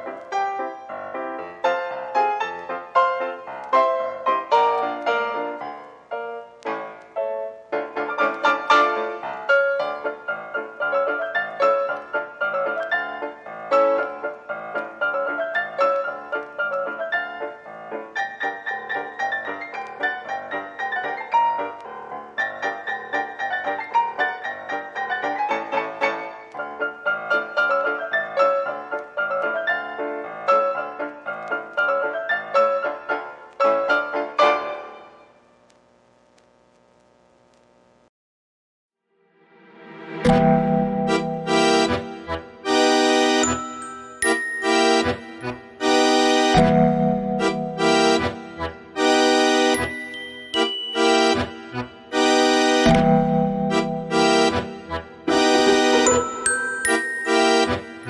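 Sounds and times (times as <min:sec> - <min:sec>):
piano music: 0:00.0 - 0:35.1, 0:39.5 - 0:58.0.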